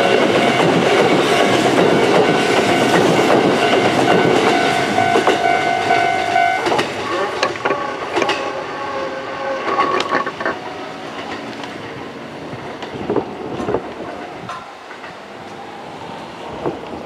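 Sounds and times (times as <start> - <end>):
wheels clicking over rail joints: 0.0 - 8.7, 9.6 - 15.6
electric train running past: 0.0 - 17.0.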